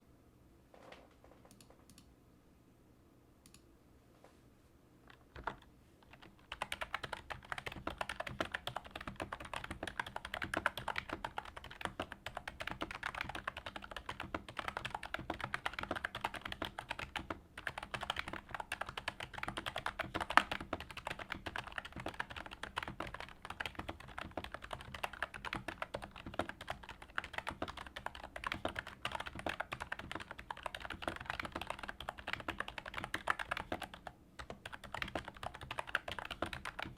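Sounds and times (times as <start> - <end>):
keyboard typing: 5.1 - 36.9.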